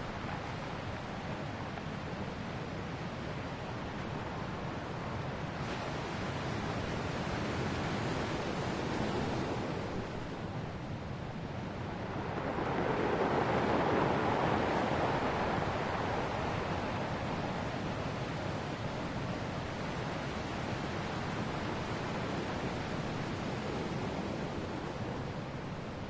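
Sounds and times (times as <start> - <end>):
ocean waves washing onto shore: 0.0 - 26.0.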